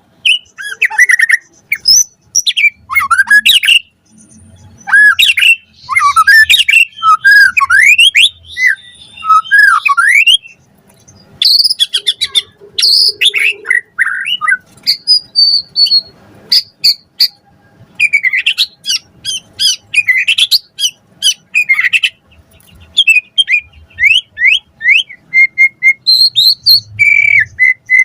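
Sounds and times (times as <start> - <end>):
bird singing whistled notes: 0.2 - 10.6, 11.2 - 17.4, 18.0 - 28.0.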